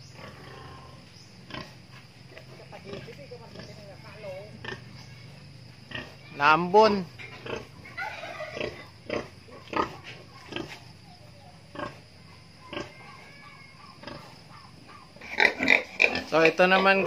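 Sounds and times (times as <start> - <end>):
pigs grunting: 0.0 - 3.9, 4.5 - 6.3, 7.1 - 11.0, 11.6 - 17.0.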